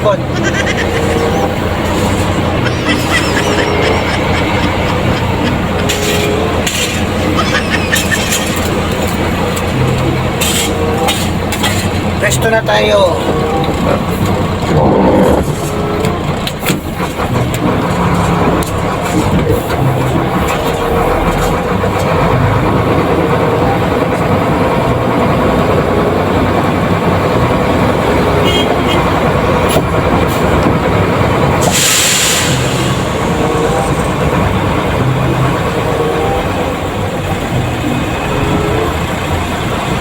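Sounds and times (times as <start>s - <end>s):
truck engine and road noise: 0.0s - 40.0s.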